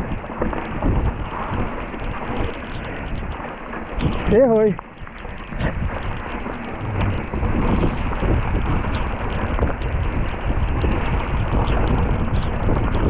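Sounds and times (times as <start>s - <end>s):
bike rattling over bumps: 0.0s - 13.0s
bike tyres rolling on dirt: 0.0s - 13.0s
wind buffeting microphone: 0.0s - 13.0s.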